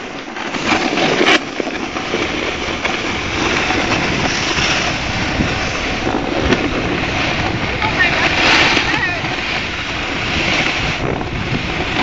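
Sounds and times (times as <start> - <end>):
skis scraping over snow: 0.0 - 12.0
wind on microphone: 0.0 - 12.0.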